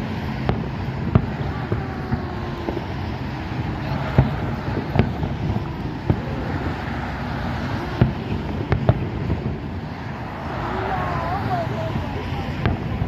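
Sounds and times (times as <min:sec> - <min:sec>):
distant fireworks bangs: 0:00.0 - 0:13.0
wind noise on microphone: 0:00.0 - 0:13.0.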